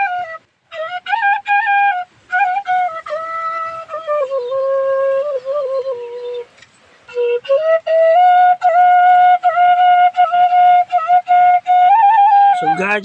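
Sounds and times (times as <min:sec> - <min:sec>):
bamboo flute melody: 0:00.0 - 0:13.0.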